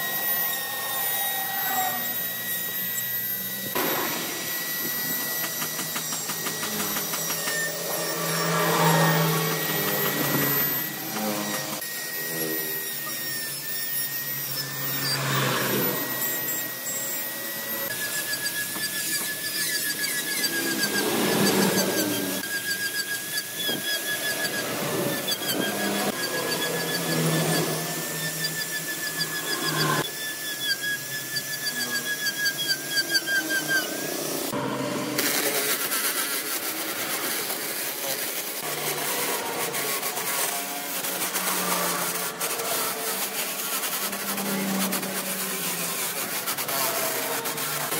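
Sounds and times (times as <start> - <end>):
power tool whining carving wood: 0.0 - 47.9.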